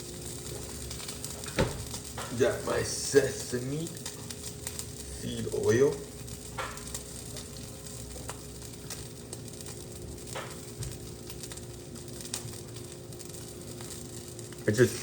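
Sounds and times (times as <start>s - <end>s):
faint steady hum: 0.0s - 15.0s
vegetables sizzling in a frying pan: 0.0s - 15.0s.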